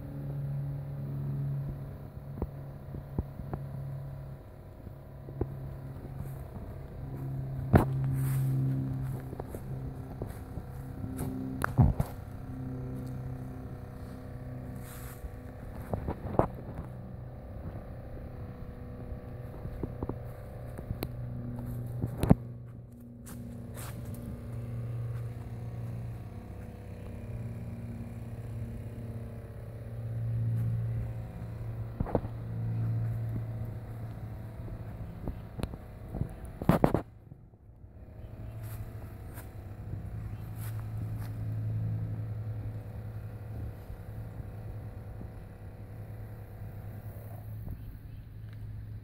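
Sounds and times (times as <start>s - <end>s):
small engine running: 0.0s - 49.0s.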